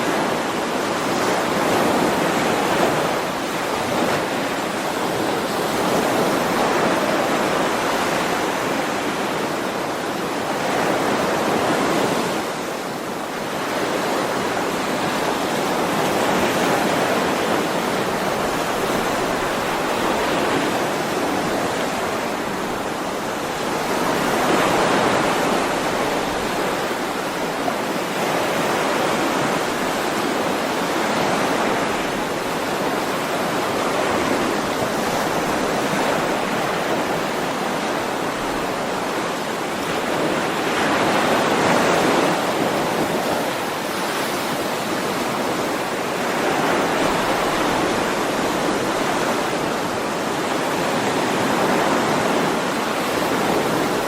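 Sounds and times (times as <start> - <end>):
ocean waves washing onto shore: 0.0 - 54.0.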